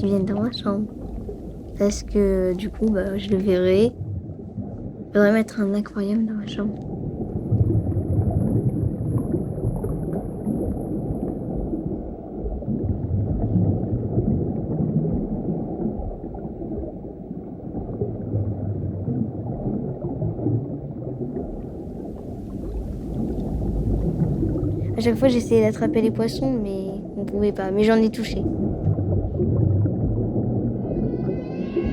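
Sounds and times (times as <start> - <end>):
underwater gurgling and bubbling: 0.0 - 5.4, 6.8 - 31.9.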